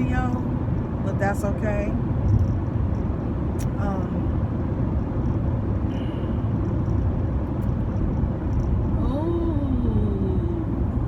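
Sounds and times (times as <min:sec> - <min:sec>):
car engine: 0:00.0 - 0:11.0
tyre and road noise: 0:00.0 - 0:11.0.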